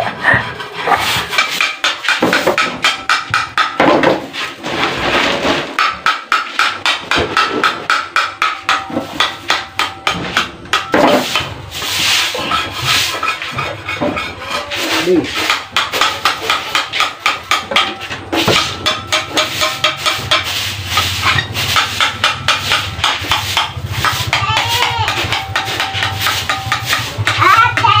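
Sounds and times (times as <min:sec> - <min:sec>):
rasping scrape: 0:00.0 - 0:28.0
hand tool chopping wood: 0:00.8 - 0:28.0.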